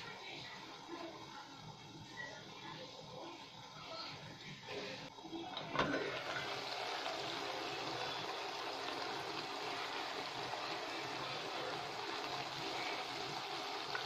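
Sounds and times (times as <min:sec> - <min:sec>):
vegetables sizzling in pot: 0:00.0 - 0:14.0.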